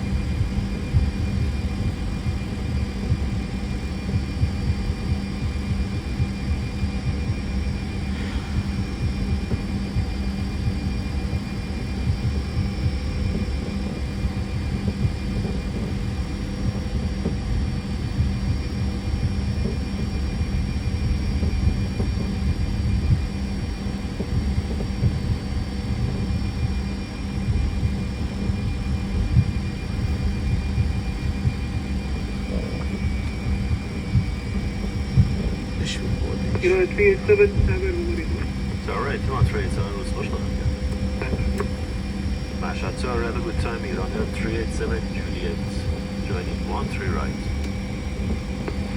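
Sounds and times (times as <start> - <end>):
airliner cockpit rumble and hum: 0.0 - 48.9
faint steady tones: 0.0 - 48.9.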